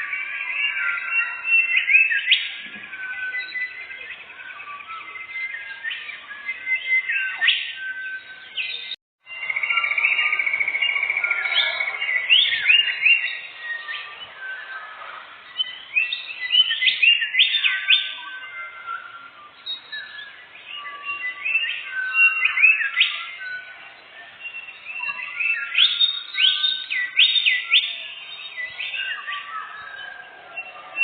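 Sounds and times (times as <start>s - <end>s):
bird trill: 0.0s - 31.0s
songbird singing: 0.0s - 31.0s.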